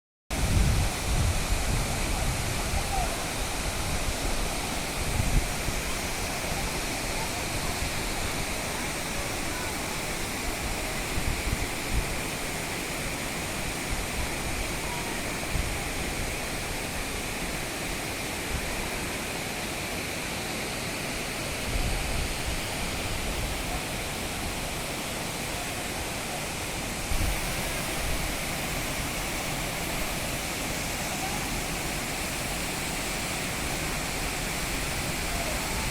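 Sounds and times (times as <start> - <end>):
waterfall roaring: 0.4 - 35.9.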